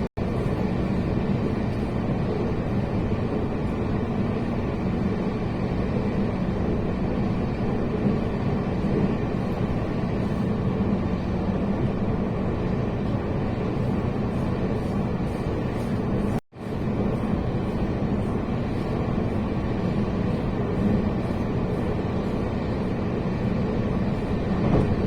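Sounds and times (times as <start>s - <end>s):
train running rumble: 0.0s - 25.0s.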